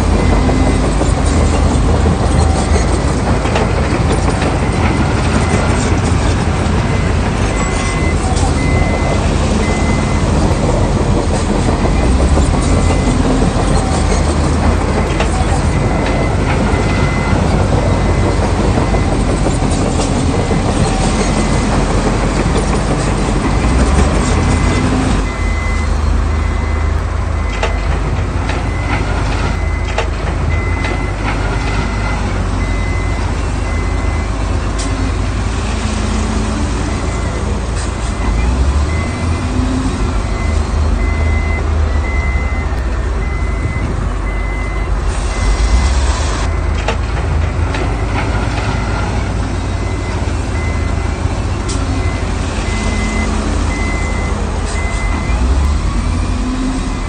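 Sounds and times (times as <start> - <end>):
reversing alarm beeping: 0.0 - 28.0, 28.6 - 35.3, 35.9 - 37.6, 38.2 - 46.8, 47.9 - 57.0
heavy diesel engines running: 0.0 - 57.0.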